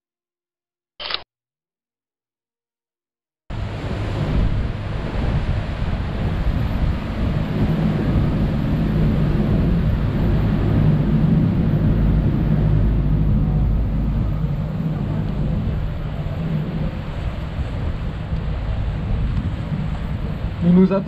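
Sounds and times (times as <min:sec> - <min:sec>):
boat engine drone: 0:03.5 - 0:21.0
wind noise on microphone: 0:03.5 - 0:21.0.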